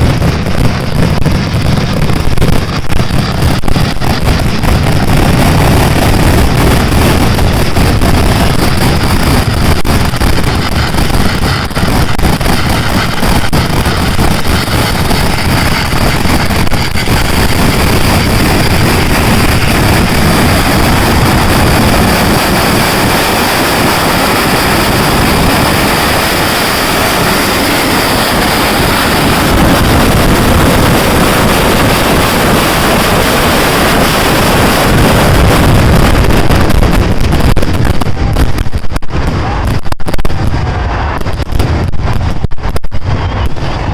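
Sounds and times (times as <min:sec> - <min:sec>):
fireworks barrage roaring: 0:00.0 - 0:43.9.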